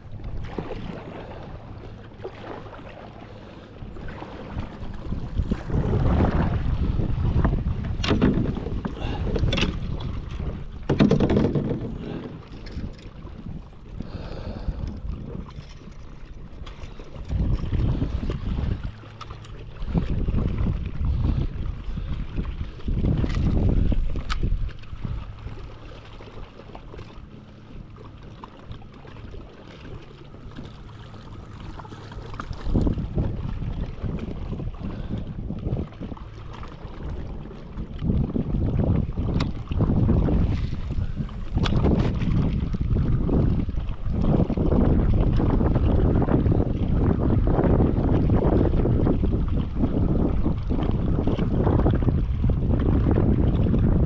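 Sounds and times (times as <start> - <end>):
water sloshing around boat: 0.0 - 54.0
water splashes: 0.0 - 54.0
wind rumbling on microphone: 0.0 - 54.0.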